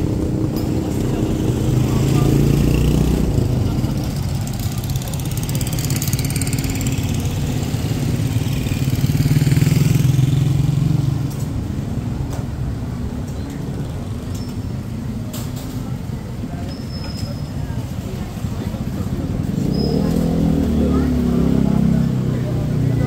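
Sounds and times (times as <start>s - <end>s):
vehicle engines passing: 0.0s - 23.0s.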